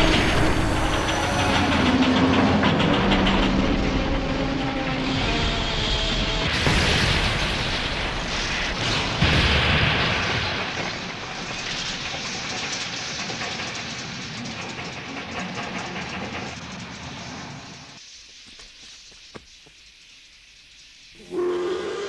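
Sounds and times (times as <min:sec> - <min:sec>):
steam locomotive hissing steam: 0:00.0 - 0:02.2, 0:04.5 - 0:09.8, 0:10.5 - 0:22.0.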